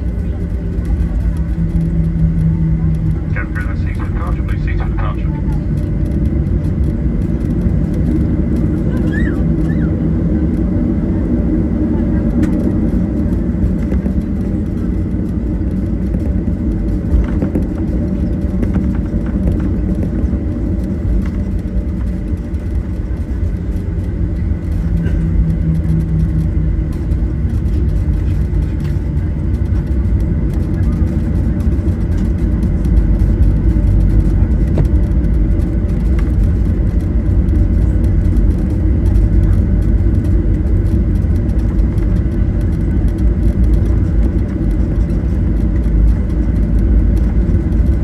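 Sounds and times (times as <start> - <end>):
jet engines in cabin: 0.0 - 48.0.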